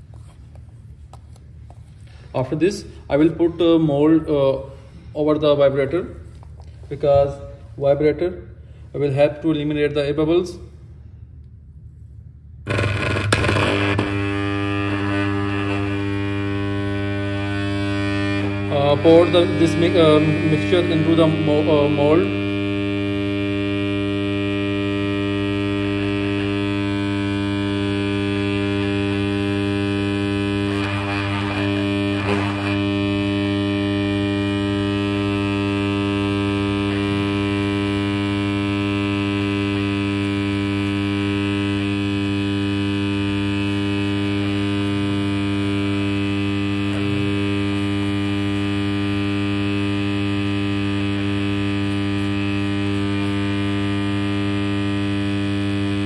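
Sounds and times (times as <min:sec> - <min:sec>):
electric vibrator buzzing: 0:00.0 - 0:56.0.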